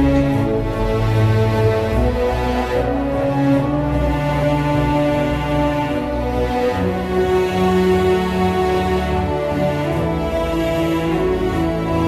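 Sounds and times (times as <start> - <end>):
music of long held notes: 0.0 - 12.0.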